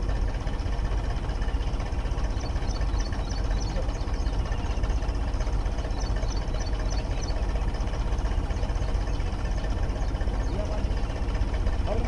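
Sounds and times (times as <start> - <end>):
tractor engine running steadily: 0.0 - 12.0.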